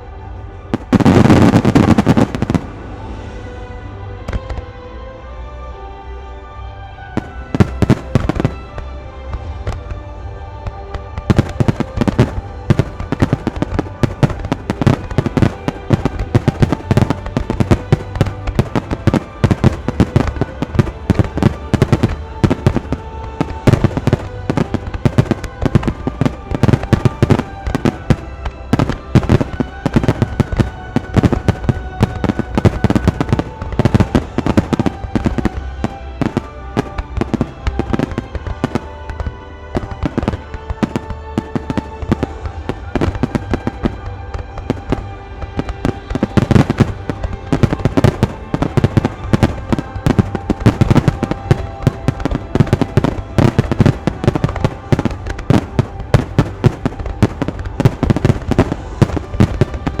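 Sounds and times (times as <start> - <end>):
music playing: 0.0 - 60.0
fireworks bursting: 0.7 - 3.3, 7.2 - 8.8, 10.9 - 60.0.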